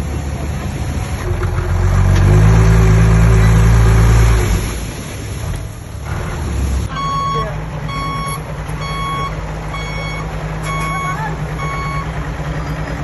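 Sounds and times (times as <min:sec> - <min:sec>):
heavy diesel engine revving: 0:00.0 - 0:13.0.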